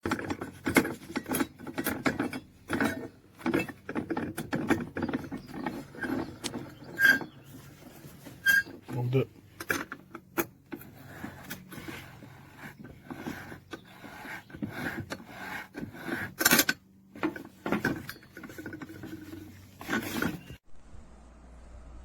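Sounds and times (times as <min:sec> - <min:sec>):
objects being handled: 0:00.0 - 0:20.6.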